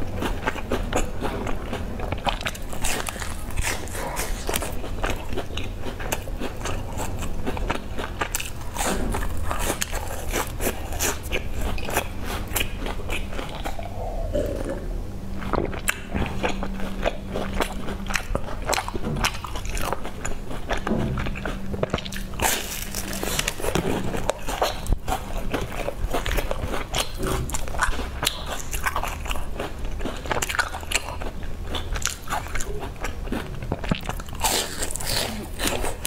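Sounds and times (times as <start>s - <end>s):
crunchy chewing: 0.0s - 36.0s
faint steady hum: 0.0s - 36.0s.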